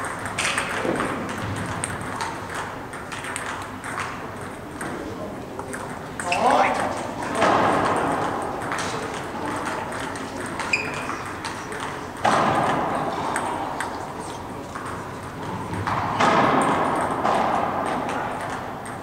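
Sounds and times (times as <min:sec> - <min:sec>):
table tennis balls clicking: 0:00.0 - 0:19.0.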